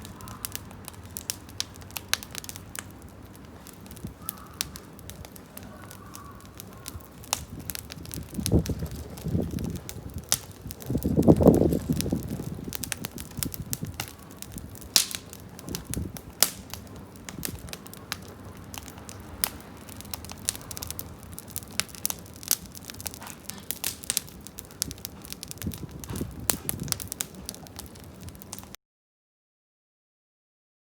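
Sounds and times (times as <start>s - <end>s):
campfire crackling and popping: 0.0s - 28.8s.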